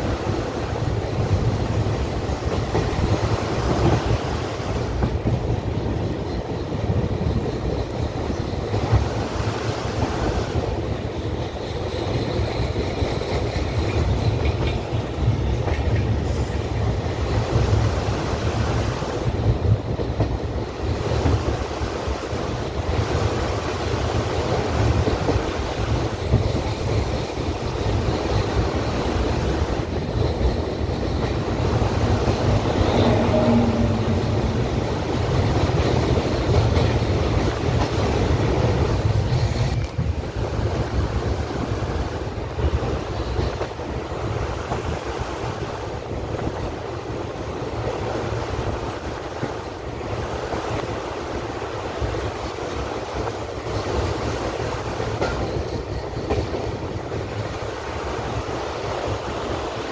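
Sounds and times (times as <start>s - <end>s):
train knocks: 0.0s - 21.7s, 22.4s - 45.0s, 52.0s - 59.3s
train wheels rumbling on rails: 0.0s - 59.9s.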